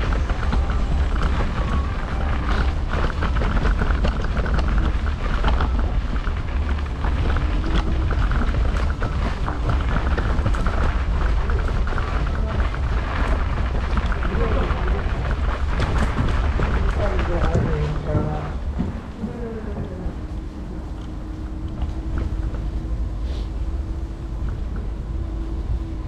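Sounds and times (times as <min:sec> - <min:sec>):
small clicks and rattles: 0:00.0 - 0:22.9
scooter wheels rolling on paving: 0:00.0 - 0:23.1
wind rumble on microphone: 0:00.0 - 0:26.0.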